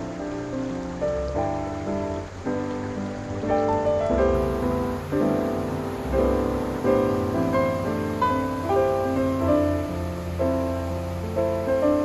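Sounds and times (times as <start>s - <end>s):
piano music single notes: 0.0s - 12.0s.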